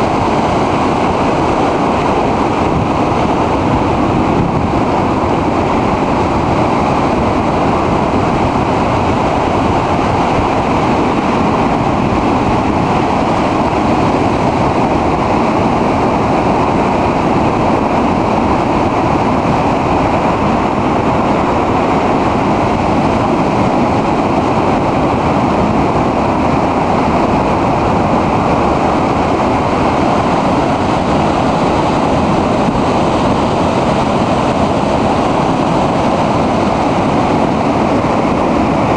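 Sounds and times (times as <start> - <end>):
waves breaking over rocks: 0.0 - 38.9.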